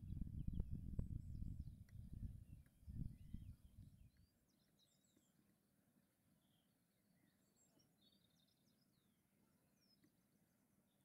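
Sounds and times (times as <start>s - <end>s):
faint songbird chirps: 0.0s - 11.0s.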